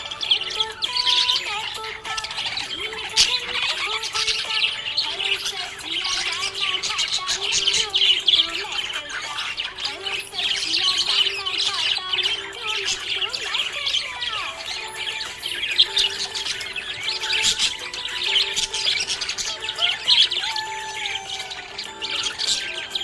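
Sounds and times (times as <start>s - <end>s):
budgerigar chirping and chattering: 0.0s - 23.0s.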